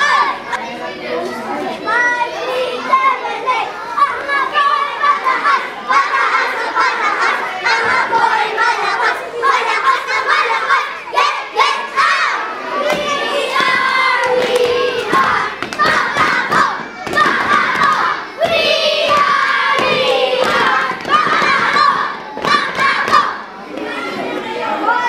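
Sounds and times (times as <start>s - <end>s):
boys chanting a cheer: 0.0s - 25.0s.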